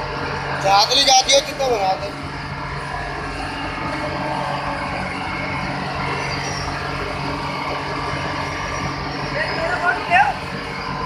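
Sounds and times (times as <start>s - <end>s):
constant hum: 0.0s - 11.0s
industrial machinery drone: 0.0s - 11.0s.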